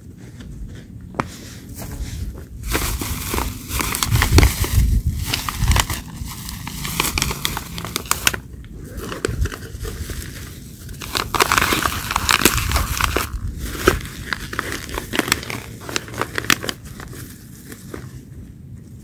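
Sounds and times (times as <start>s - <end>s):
crinkling and rustling: 0.0s - 19.0s.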